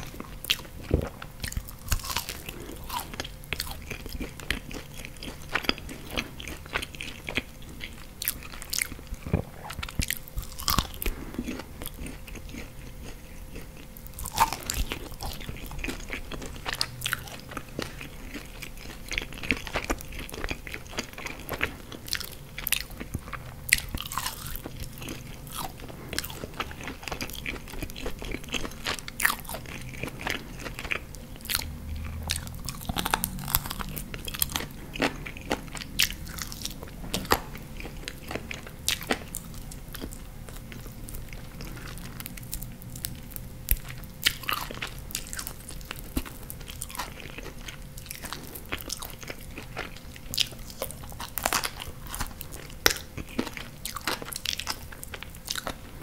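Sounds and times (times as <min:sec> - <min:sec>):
chewing and biting crunches: 0:00.0 - 0:56.0.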